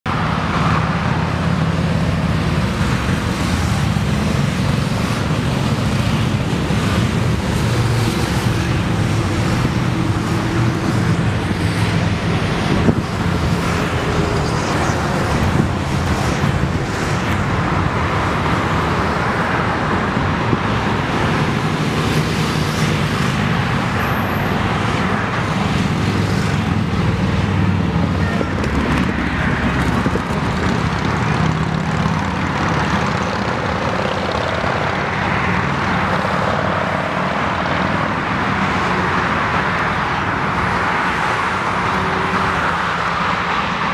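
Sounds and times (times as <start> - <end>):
road traffic: 0.0 - 43.9.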